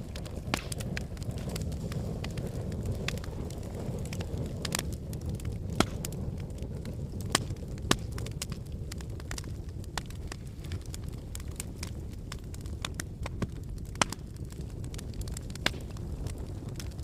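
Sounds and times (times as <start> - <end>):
fire crackling in a fireplace: 0.0 - 17.0.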